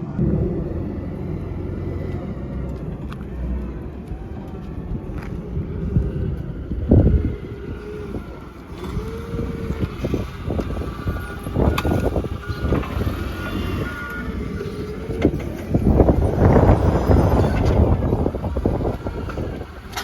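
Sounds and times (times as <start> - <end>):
van engine and road rumble: 0.0 - 20.0.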